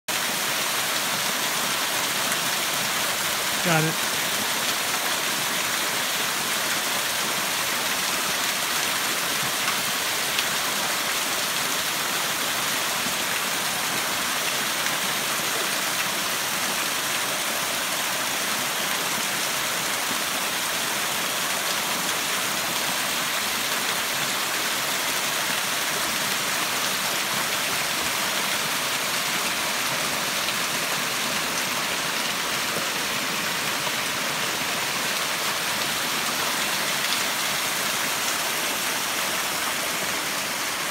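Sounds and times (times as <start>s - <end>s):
waterfall splashing over rocks: 0.0s - 40.9s.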